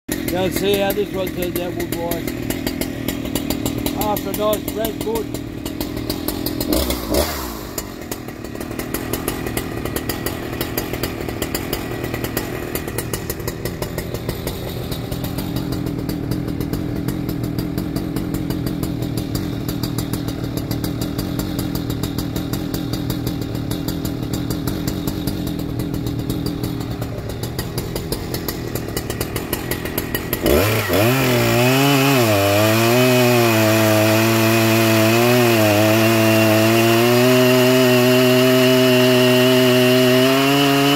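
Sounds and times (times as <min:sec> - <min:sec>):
chainsaw idling: 0:00.1 - 0:40.9
chainsaw revving and cutting log: 0:00.1 - 0:40.9.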